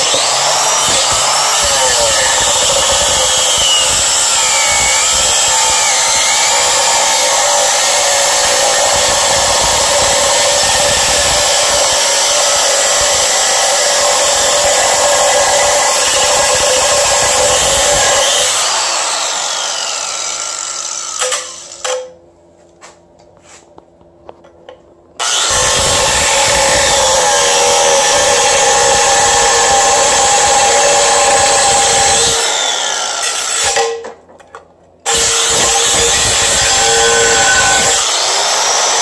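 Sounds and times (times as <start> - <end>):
angle grinder cutting metal: 0.0 - 22.1, 25.2 - 34.0, 35.1 - 39.0.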